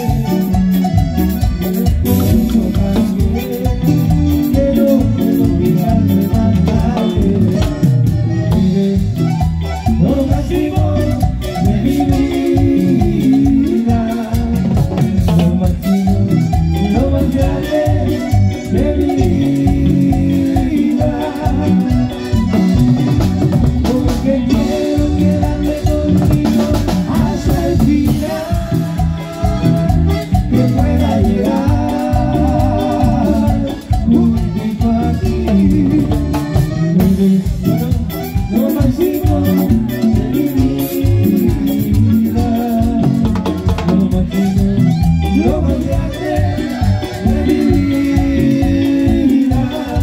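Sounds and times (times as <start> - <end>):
accordion: 0.0 - 50.0
congas: 0.0 - 50.0
latin dance band playing: 0.0 - 50.0
man singing: 0.0 - 50.0.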